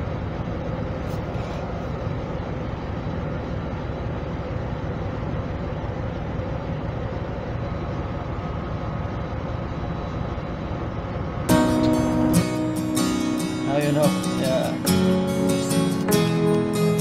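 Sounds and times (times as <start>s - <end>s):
low rumble with hiss: 0.0s - 17.0s.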